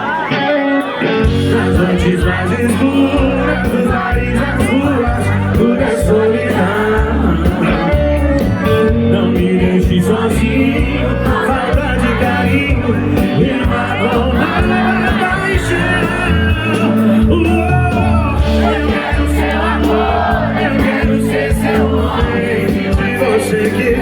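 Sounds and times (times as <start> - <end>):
crowd shouting: 0.0 - 8.7, 9.9 - 24.0
live band playing: 0.0 - 24.0
voices singing: 0.0 - 24.0.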